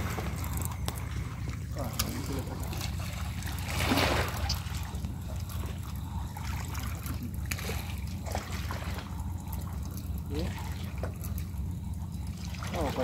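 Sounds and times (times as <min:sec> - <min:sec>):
river water splashing and trickling: 0:00.0 - 0:13.0
steady low hum: 0:00.0 - 0:13.0.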